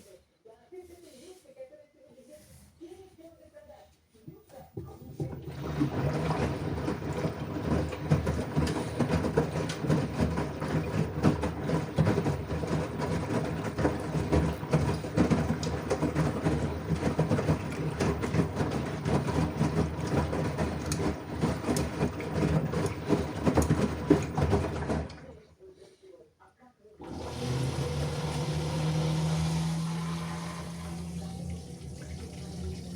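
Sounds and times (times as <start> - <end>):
washing machine drum humming: 4.2 - 25.5, 27.0 - 32.9.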